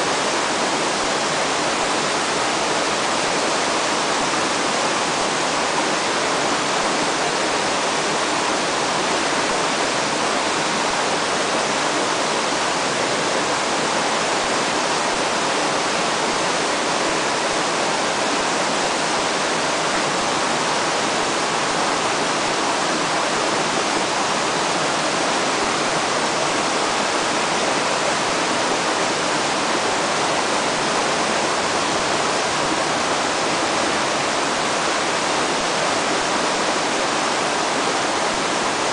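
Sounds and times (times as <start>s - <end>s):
fast-flowing river water: 0.0s - 38.9s.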